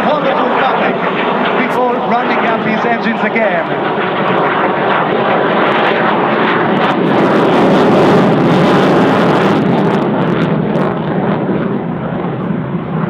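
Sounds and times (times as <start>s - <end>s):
fighter jet passing low: 0.0s - 13.0s.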